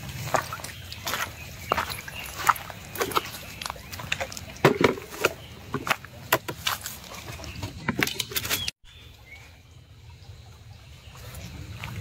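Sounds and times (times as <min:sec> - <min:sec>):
creekside ambience hiss: 0:00.0 - 0:07.7, 0:08.4 - 0:12.0.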